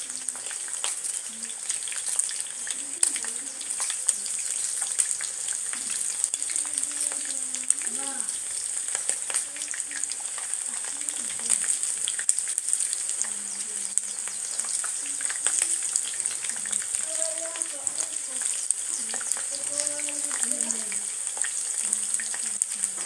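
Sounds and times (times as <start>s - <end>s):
chicken deep frying in oil: 0.0s - 23.0s.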